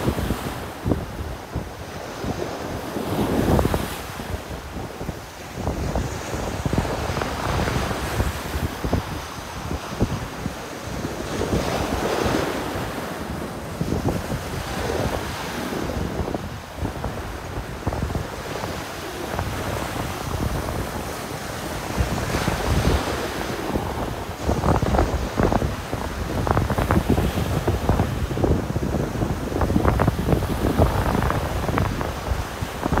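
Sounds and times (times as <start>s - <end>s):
ocean surf on beach: 0.0s - 33.0s
wind buffeting microphone: 0.0s - 33.0s.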